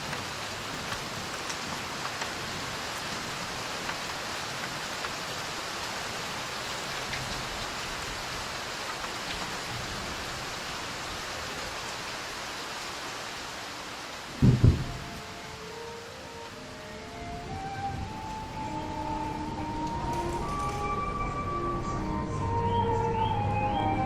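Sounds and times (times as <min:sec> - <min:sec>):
rain hissing: 0:00.0 - 0:24.0.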